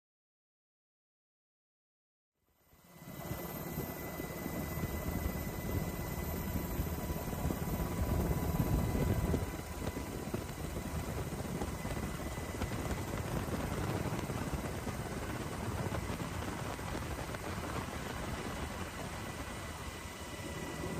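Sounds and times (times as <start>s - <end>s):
helicopter flying overhead: 2.8s - 20.9s.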